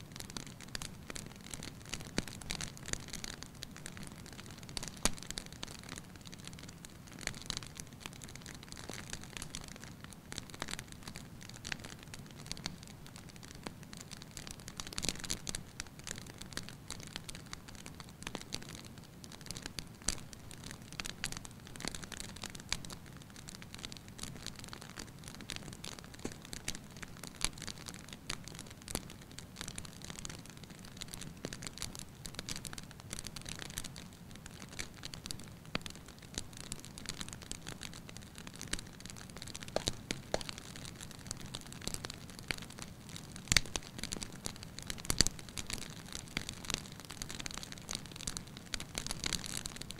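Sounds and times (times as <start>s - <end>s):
fire crackling in fireplace: 0.0s - 49.9s.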